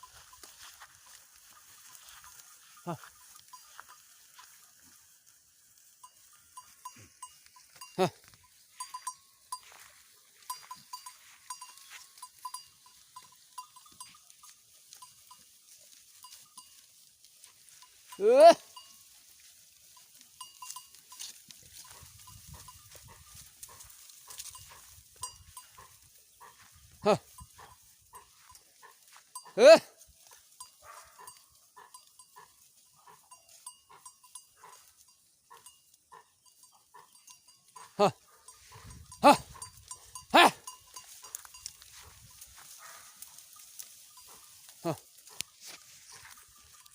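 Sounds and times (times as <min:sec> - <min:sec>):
goat bells clinking: 0:00.0 - 0:46.9.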